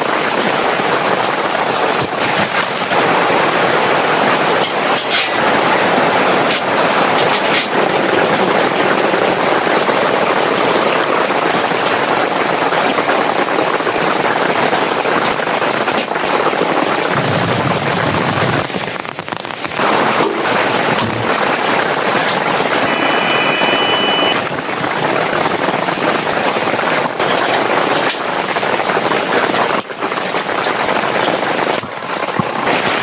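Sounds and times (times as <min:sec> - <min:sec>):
steady rain falling: 0:02.7 - 0:22.7, 0:24.5 - 0:33.0.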